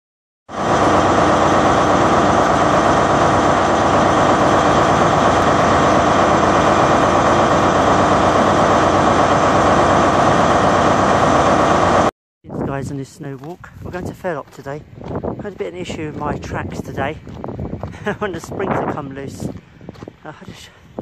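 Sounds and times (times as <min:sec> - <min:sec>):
vehicle engine running: 0:00.5 - 0:12.1, 0:13.4 - 0:21.0.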